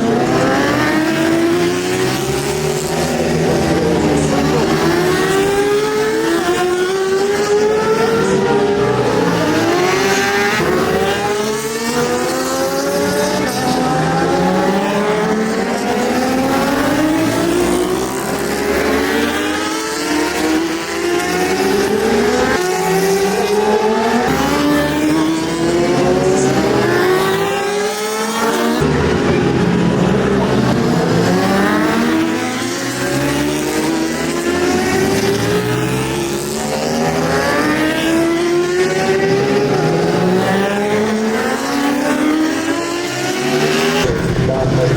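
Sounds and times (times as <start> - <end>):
motorcycle engines revving: 0.0 - 44.9.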